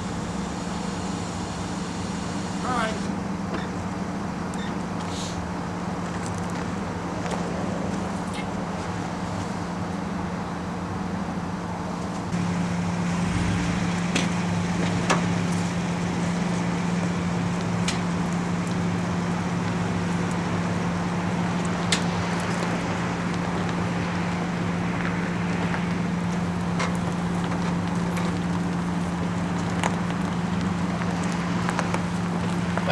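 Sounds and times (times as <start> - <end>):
engine humming: 0.0 - 10.1, 11.7 - 32.9.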